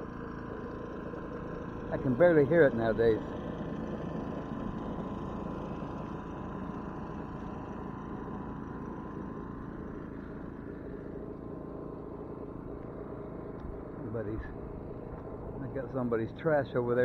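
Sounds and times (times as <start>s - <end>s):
generator engine hum: 0.0s - 17.0s.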